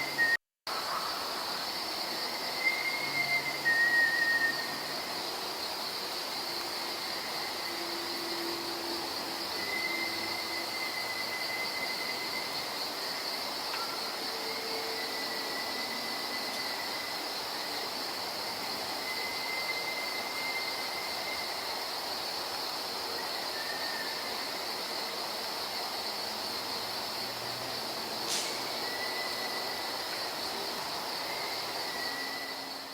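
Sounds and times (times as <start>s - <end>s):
insects chorus: 0.0s - 32.9s.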